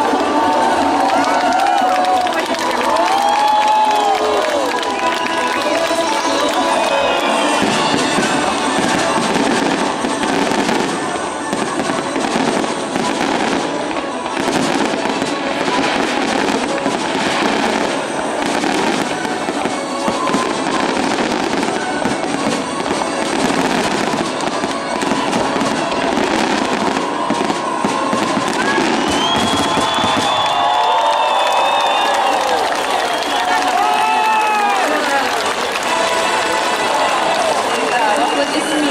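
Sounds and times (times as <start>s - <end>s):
fireworks crackling and popping: 0.0s - 38.9s
music: 0.0s - 38.9s.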